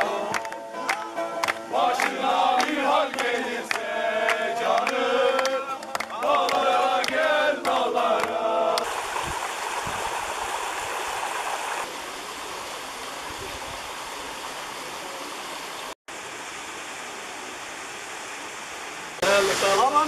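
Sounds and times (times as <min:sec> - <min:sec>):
creek water rushing over stones: 0:00.0 - 0:20.0.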